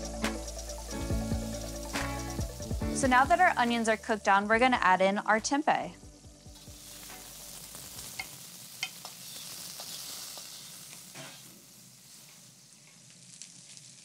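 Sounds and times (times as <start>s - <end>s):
food sizzling in a skillet: 0.0s - 14.0s.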